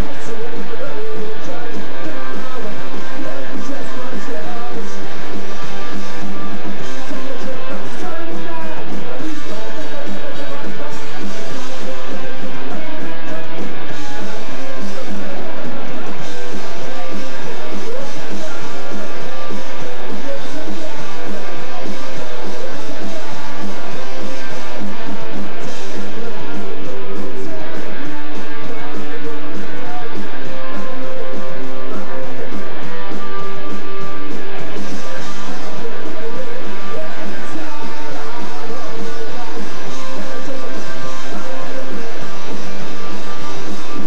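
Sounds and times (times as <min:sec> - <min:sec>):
bass guitar: 0:00.0 - 0:44.0
distorted electric guitars: 0:00.0 - 0:44.0.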